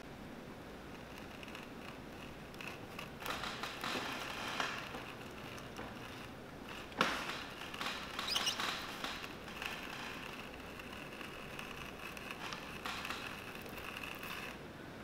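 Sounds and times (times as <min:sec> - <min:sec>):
blade cutting leather: 0:00.9 - 0:14.6.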